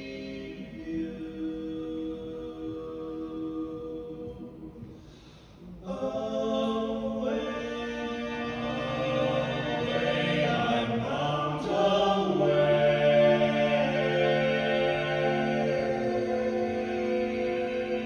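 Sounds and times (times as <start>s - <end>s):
vocal quartet singing a cappella: 0.0s - 18.0s.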